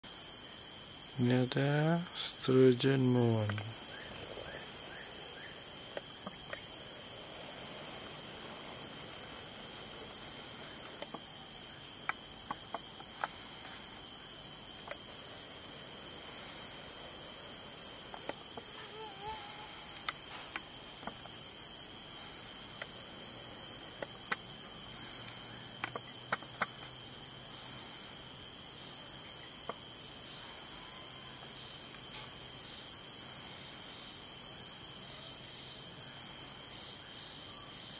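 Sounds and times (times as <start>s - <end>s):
pulsing insect trill: 0.0s - 37.9s
high-pitched insect drone: 0.1s - 37.9s.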